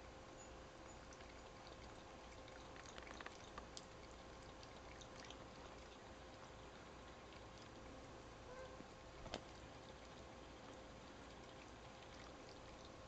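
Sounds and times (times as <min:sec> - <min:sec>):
steady low hiss: 0:00.0 - 0:13.0
cat lapping water: 0:01.0 - 0:08.0, 0:09.0 - 0:13.0.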